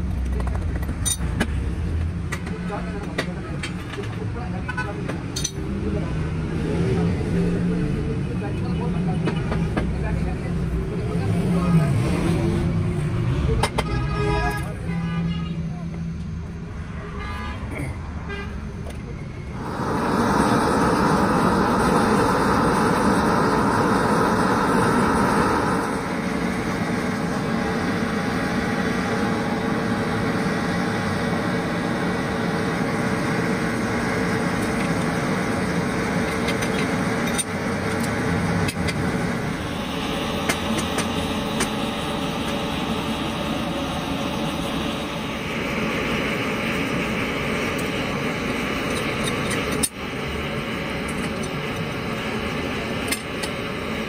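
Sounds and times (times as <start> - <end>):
rushing mechanical engine noise: 0.0 - 54.0.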